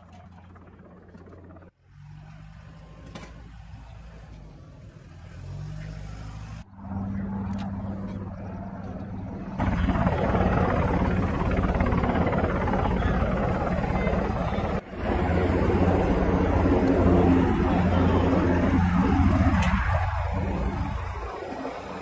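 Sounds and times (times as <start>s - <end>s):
low droning engine hum: 0.0s - 5.1s, 6.0s - 22.0s.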